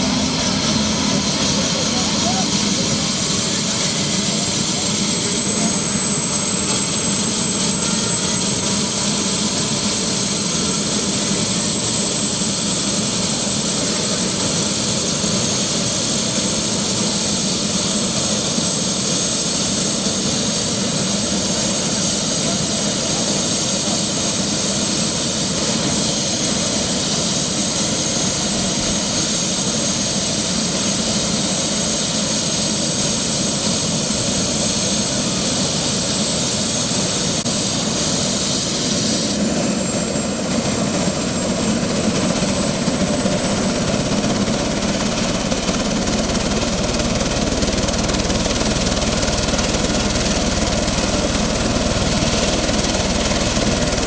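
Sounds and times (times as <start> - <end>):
helicopter turbine whine: 0.0 - 54.0.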